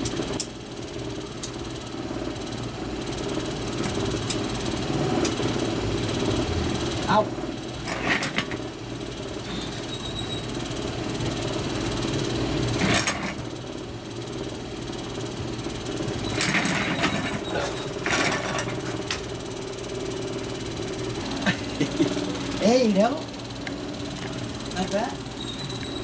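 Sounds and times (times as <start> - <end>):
motor rumbling: 0.0 - 26.0.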